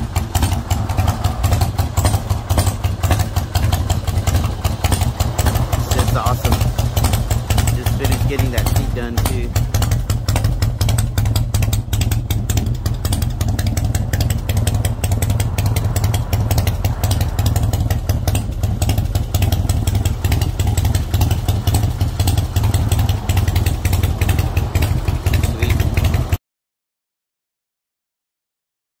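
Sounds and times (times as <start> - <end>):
motorcycle engine running: 0.0 - 26.4.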